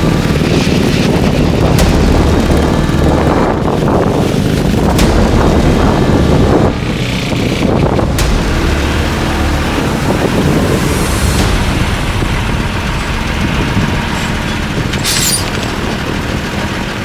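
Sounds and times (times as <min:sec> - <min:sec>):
steady motor noise: 0:00.0 - 0:17.0
wind buffeting microphone: 0:00.0 - 0:17.0.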